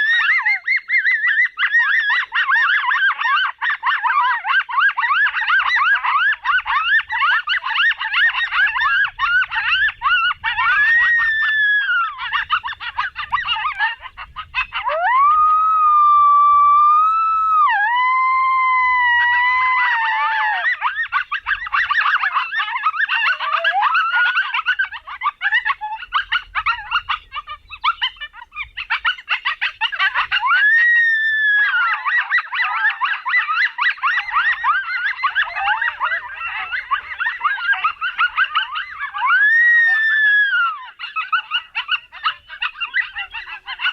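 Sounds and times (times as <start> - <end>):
coyote howling: 0.0 - 43.9
coyotes yipping and barking: 0.0 - 43.9.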